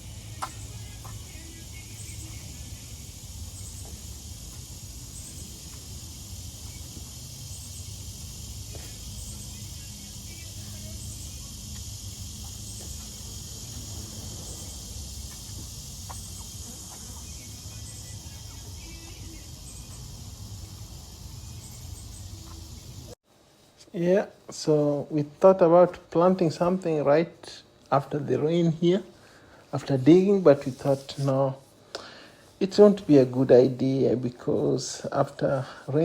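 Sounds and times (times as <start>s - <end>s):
insect chorus buzzing: 0.0s - 36.0s.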